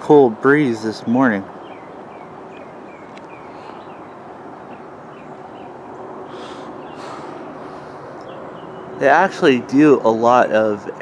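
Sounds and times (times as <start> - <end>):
small birds chirping: 0.7 - 11.0.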